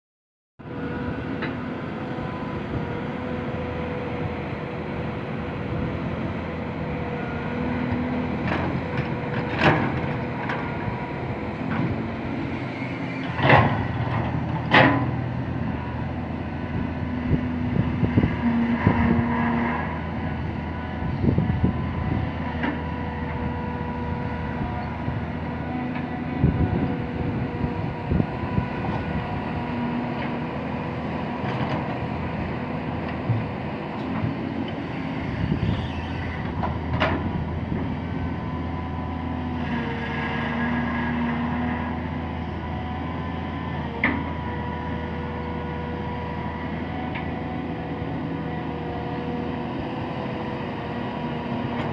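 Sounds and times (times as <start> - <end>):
excavator engine and hydraulics: 0.6 - 51.9.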